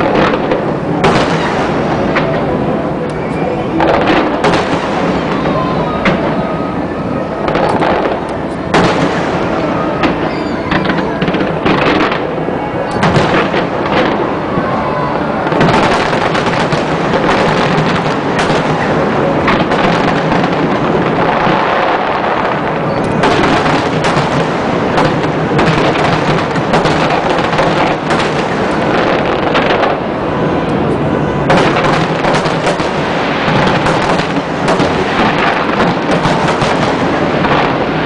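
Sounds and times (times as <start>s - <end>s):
fireworks booming and crackling: 0.0s - 38.0s.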